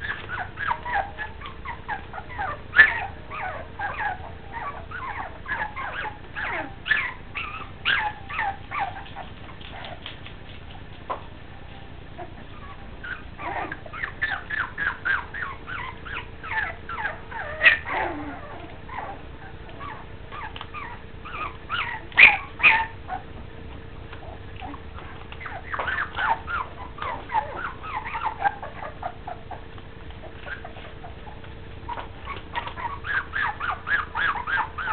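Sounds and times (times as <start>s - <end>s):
puppies whimpering and yipping: 0.0s - 34.9s.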